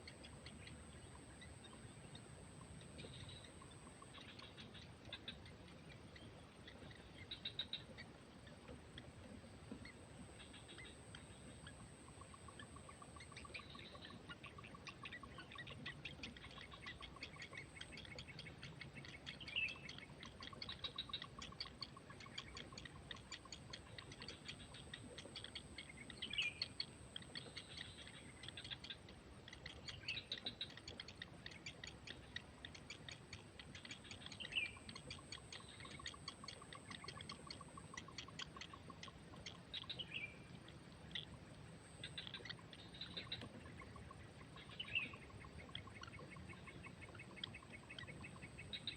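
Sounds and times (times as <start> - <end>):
faint bird chirps: 0.0 - 48.9.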